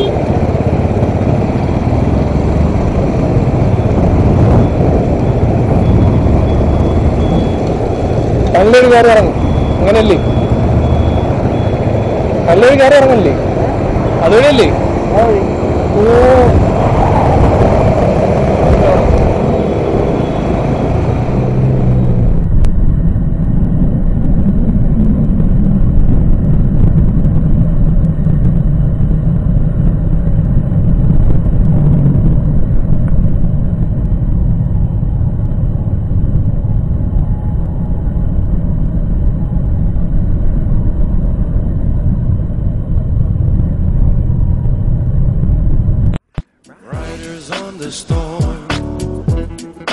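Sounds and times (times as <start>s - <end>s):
wind rumble on microphone: 0.0s - 46.3s
motorcycle engine: 0.0s - 47.0s
traffic noise: 0.0s - 49.9s.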